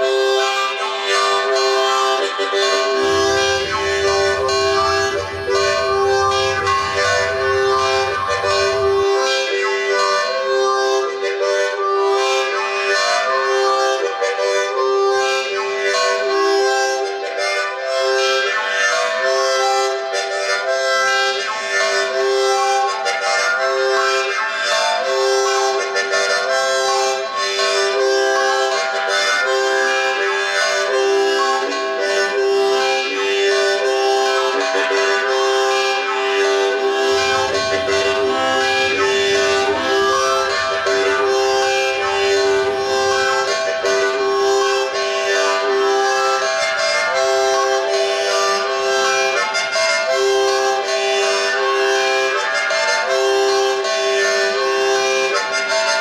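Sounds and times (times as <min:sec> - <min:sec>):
harmonica playing chords: 0:00.0 - 0:56.0.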